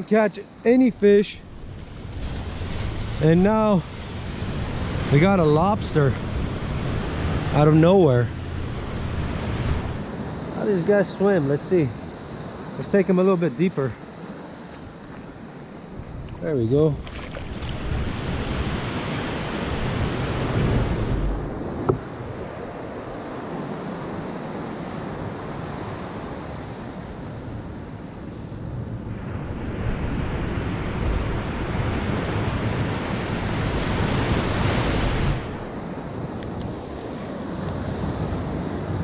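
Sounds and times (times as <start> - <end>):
surf washing over sand: 0.7 - 39.0
wind on microphone: 1.4 - 10.5, 15.0 - 24.2, 25.0 - 39.0.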